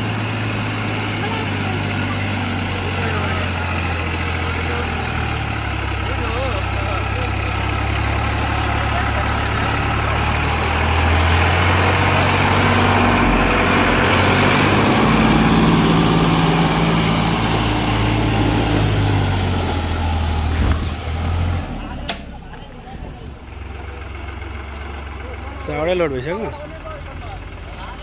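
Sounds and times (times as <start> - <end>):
diesel engine under load: 0.0 - 28.0.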